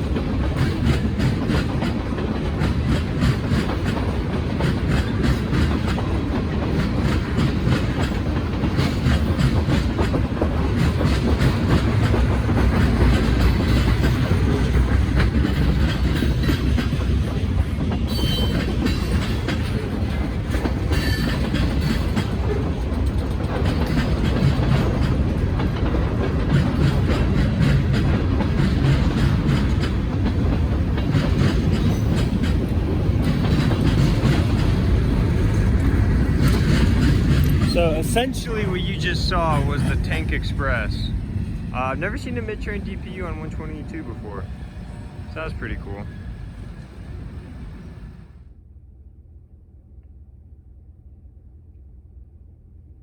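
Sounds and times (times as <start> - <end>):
train wheels clicking over rail joints: 0.0 - 48.3.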